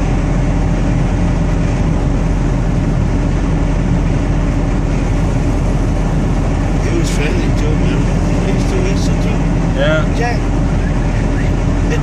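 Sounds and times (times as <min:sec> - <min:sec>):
engine drone: 0:00.0 - 0:12.0
road noise inside vehicle: 0:00.0 - 0:12.0.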